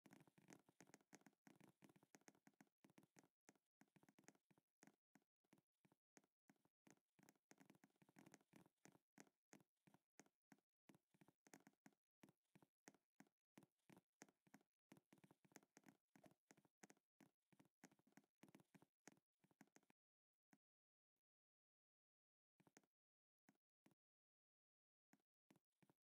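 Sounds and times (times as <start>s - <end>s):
faint keyboard typing: 0.0s - 20.7s, 22.6s - 24.1s.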